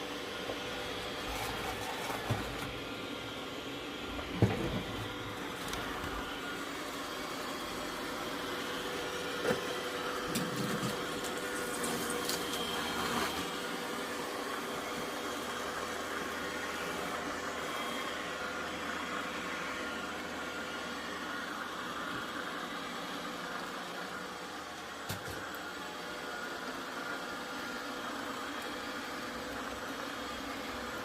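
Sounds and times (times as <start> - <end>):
robot vacuum fan whirring: 0.0 - 31.0.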